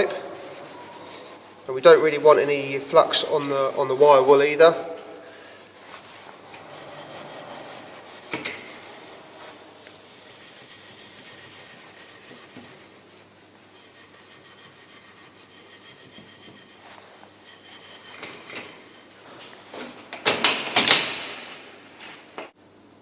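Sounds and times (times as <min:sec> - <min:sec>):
wire wool scrubbing copper pipe: 0:00.0 - 0:05.1, 0:05.8 - 0:19.6.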